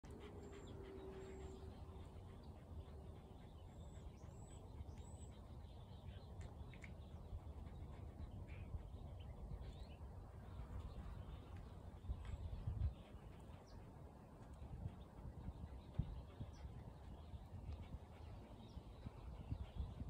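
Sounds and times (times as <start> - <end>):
distant birds chirping: 0.0 - 20.0.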